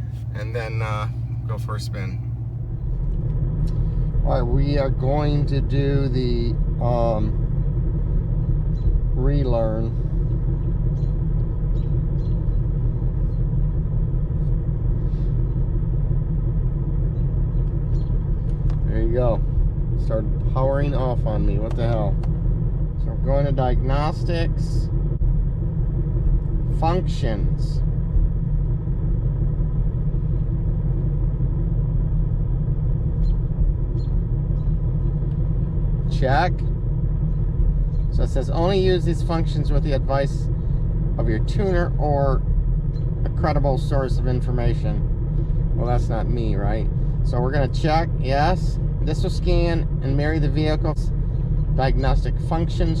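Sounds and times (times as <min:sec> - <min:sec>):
car engine idling rumble: 0:00.0 - 0:53.0.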